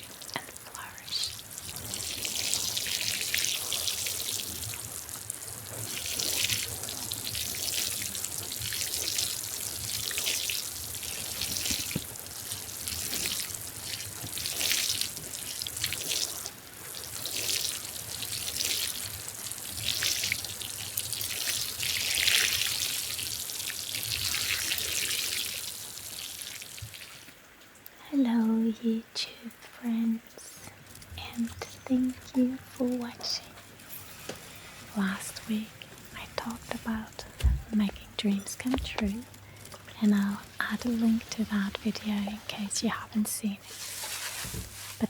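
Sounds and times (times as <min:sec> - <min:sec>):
trickling water with drips: 0:00.0 - 0:45.0.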